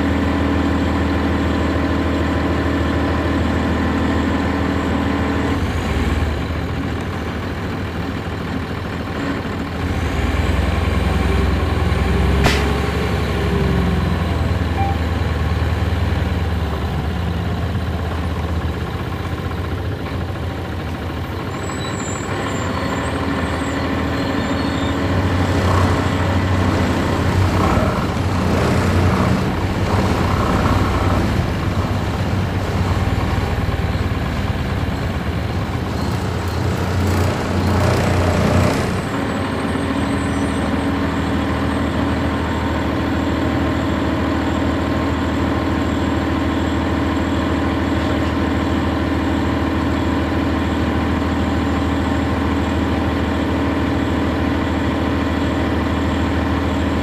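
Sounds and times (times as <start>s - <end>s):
bus engine and road noise: 0.0s - 57.0s
diesel engine idling: 0.0s - 57.0s.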